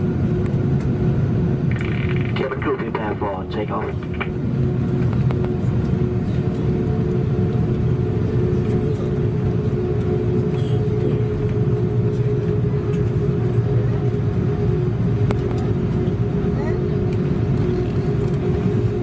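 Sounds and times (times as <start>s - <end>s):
jet engines running: 0.0s - 19.0s
steady hum: 0.0s - 19.0s.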